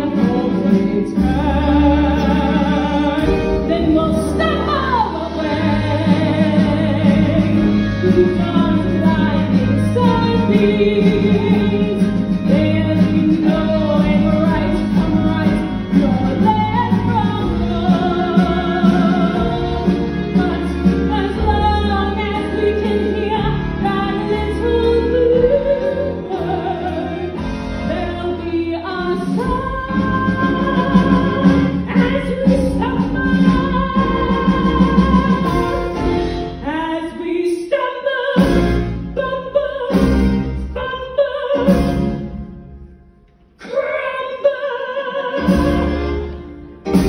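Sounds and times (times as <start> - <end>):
live band playing: 0.0 - 37.2, 38.4 - 39.3, 39.9 - 43.6, 45.3 - 47.0
woman singing: 0.0 - 42.1, 43.6 - 47.0.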